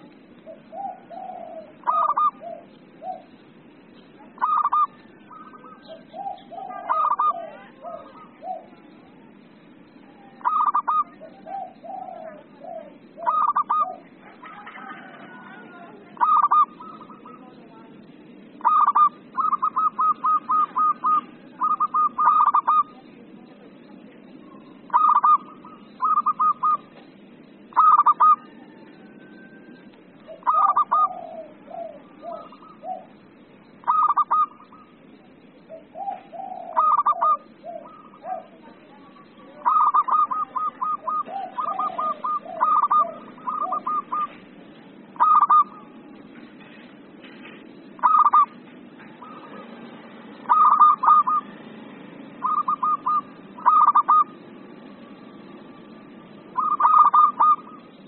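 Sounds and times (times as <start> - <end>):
dove cooing: 0.0 - 47.1, 47.8 - 58.0.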